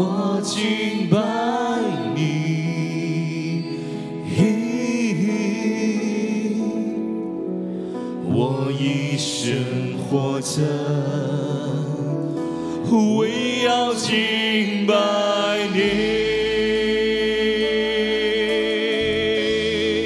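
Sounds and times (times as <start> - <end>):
man singing into a microphone: 0.0 - 20.0
soft instrumental accompaniment: 0.0 - 20.0.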